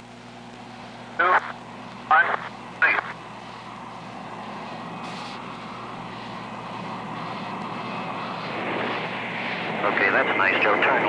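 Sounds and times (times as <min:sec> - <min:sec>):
aircraft engines roaring: 0:00.0 - 0:11.0.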